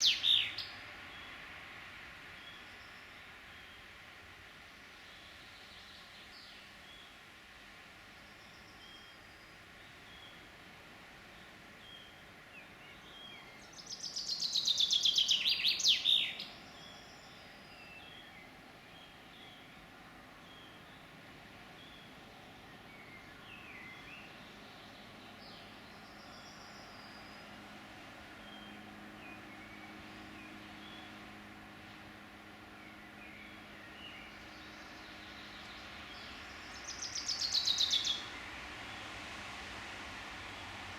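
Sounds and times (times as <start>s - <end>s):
songbird singing: 0.0s - 7.3s, 8.1s - 39.6s
background hiss: 0.0s - 40.9s.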